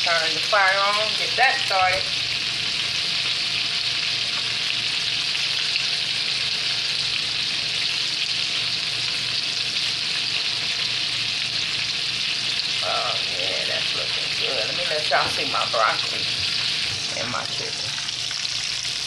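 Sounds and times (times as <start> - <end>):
chicken frying in oil: 0.0 - 19.0.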